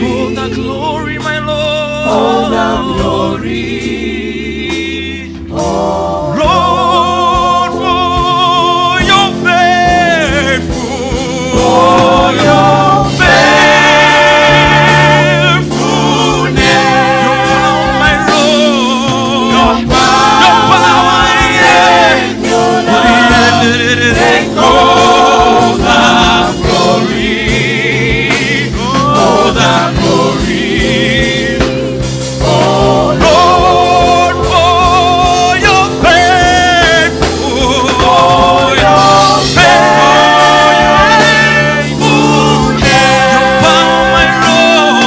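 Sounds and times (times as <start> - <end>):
man singing lead vocals: 0.0 - 3.5, 6.3 - 45.0
backing singers: 0.0 - 45.0
band with bass and drums: 4.6 - 45.0.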